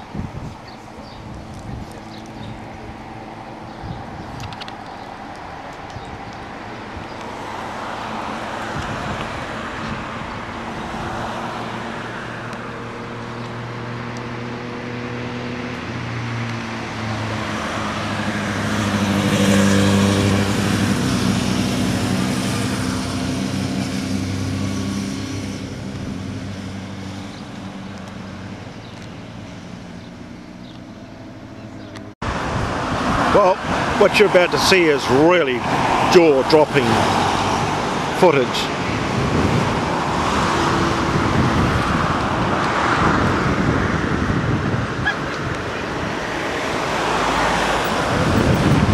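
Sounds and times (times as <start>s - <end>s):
vehicle engine passing by: 7.0s - 48.9s.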